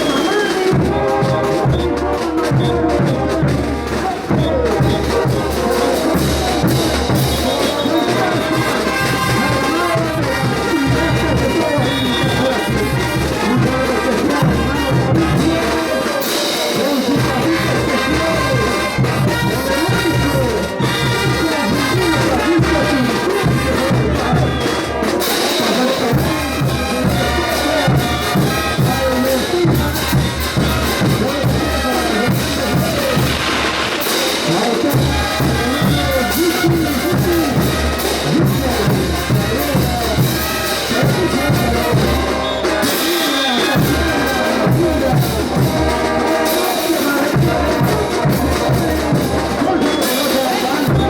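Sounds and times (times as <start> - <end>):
brass band playing dance tune: 0.0 - 51.0
steady low drum beat: 0.0 - 51.0.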